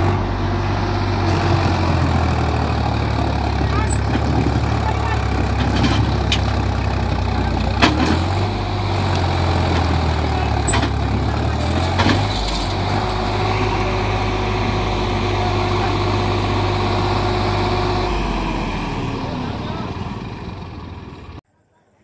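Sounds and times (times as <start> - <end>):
diesel tractor engine straining: 0.0 - 21.4.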